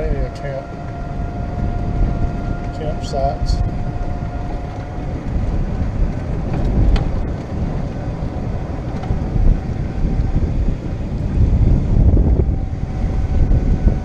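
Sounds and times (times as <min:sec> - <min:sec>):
golf cart rumble: 0:00.0 - 0:14.0
wind buffeting microphone: 0:00.0 - 0:14.0.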